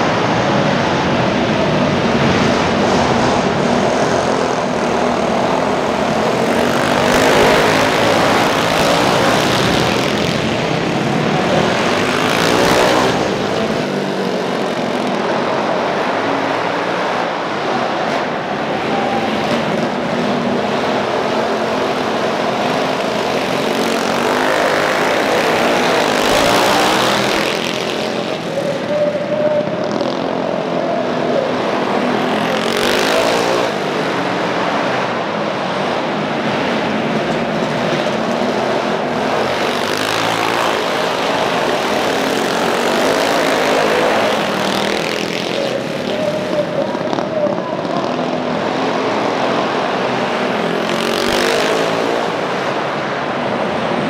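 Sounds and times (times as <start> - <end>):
mini bike engines racing: 0.0 - 54.0.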